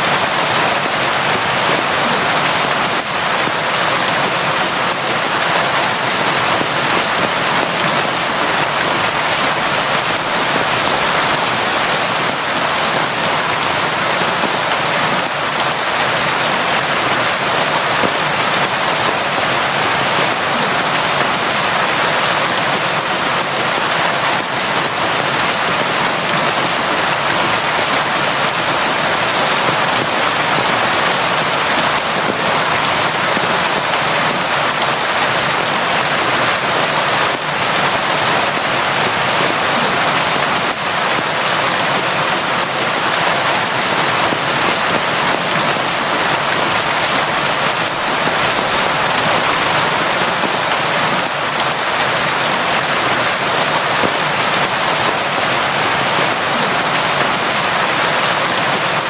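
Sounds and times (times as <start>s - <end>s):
rain falling on surfaces: 0.0s - 59.0s.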